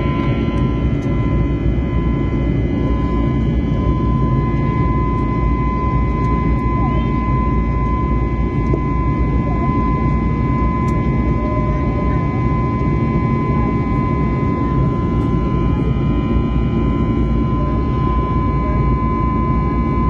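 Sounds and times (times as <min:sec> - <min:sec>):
constant high whine: 0:00.0 - 0:20.0
jet engines and airflow rushing: 0:00.0 - 0:20.0.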